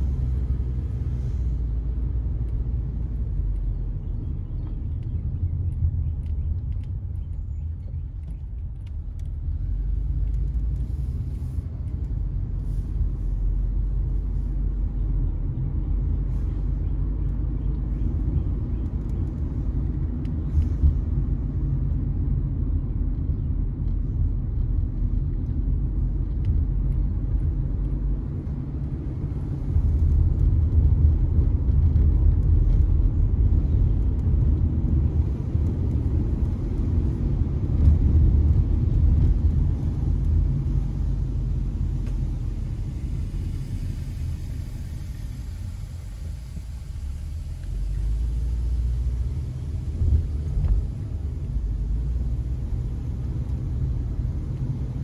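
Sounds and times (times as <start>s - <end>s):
car rumbling on road: 0.0s - 55.0s.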